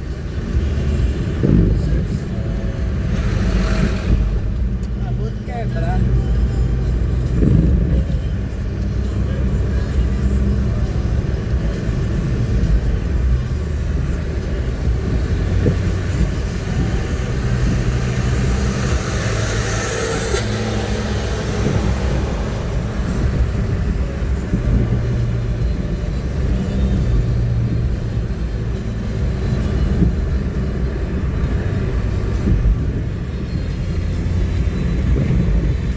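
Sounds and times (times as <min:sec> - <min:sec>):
car engine and road rumble: 0:00.0 - 0:35.9
tyres hissing on wet road: 0:00.1 - 0:05.0, 0:08.6 - 0:35.7.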